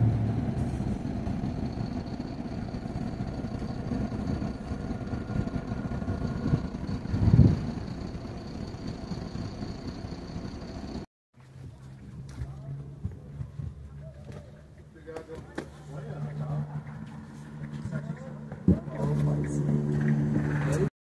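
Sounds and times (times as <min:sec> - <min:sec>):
bus engine running low: 0:00.0 - 0:20.9.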